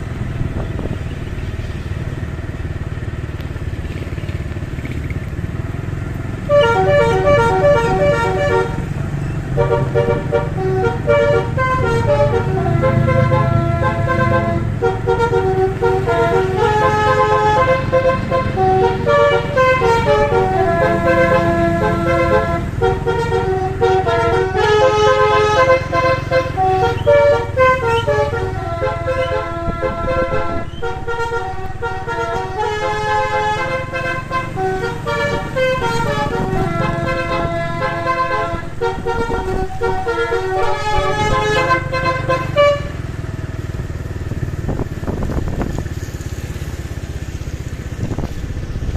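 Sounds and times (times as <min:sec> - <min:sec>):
bus engine rumble: 0:00.0 - 0:48.9
multi-tone air horn melody: 0:06.3 - 0:45.5.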